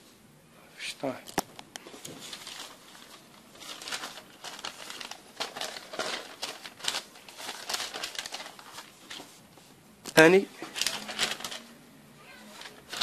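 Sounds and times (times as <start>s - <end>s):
paper rustling and crinkling: 1.3s - 11.8s, 12.4s - 13.0s.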